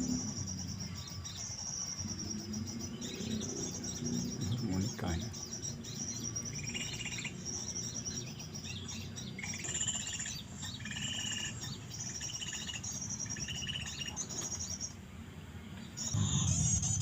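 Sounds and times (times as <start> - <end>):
buzzy trilled bird calls: 0.0 - 15.0, 15.9 - 17.0
thin high bird chirps: 0.0 - 15.0.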